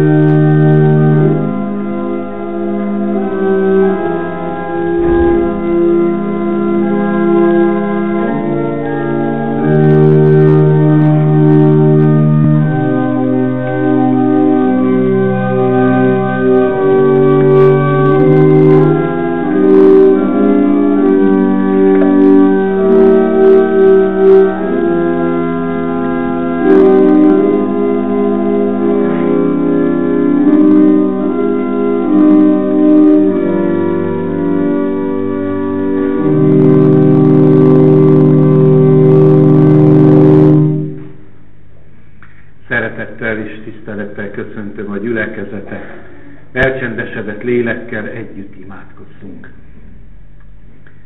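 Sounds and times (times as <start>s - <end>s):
church organ chords: 0.0s - 51.0s.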